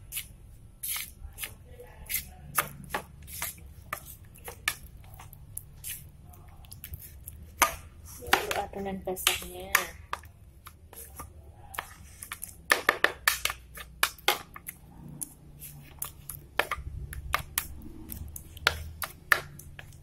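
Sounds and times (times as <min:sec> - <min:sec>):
spoon stirring batter in bowl: 0:00.0 - 0:20.0.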